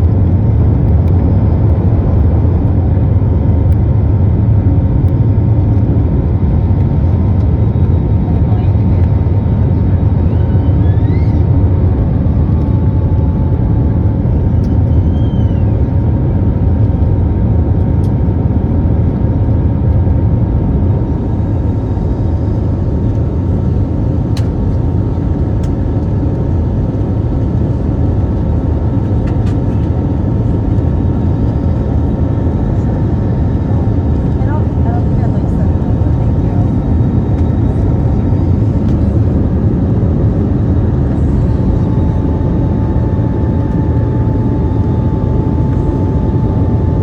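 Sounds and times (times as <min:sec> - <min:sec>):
jet engines and airflow rumble: 0:00.0 - 0:47.0.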